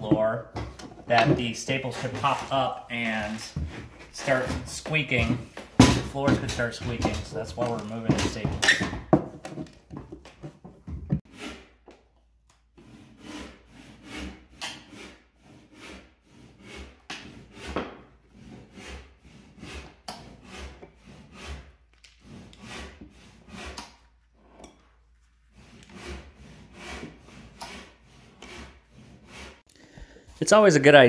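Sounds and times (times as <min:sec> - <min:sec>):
hand tools scraping on plywood: 0:00.0 - 0:12.0, 0:12.8 - 0:30.6.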